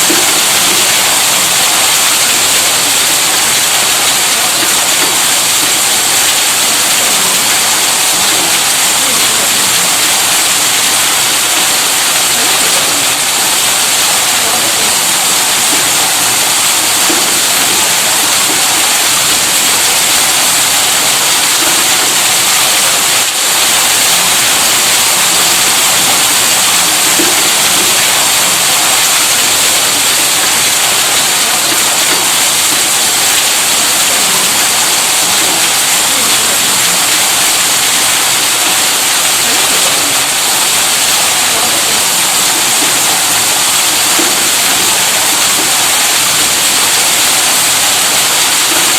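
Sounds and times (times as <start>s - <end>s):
electric pump running: 0.0s - 48.9s
water gushing from outlet: 0.0s - 48.9s.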